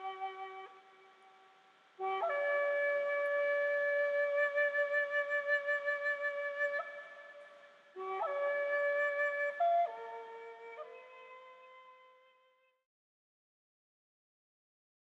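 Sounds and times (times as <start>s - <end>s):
flute-like slow held notes: 0.0s - 12.3s.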